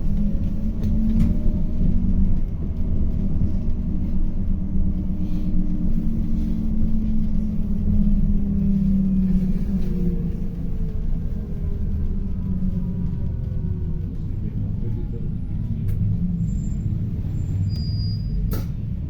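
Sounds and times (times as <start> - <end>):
drivetrain whine: 0.0 - 18.4
bus engine and road rumble: 0.0 - 19.0.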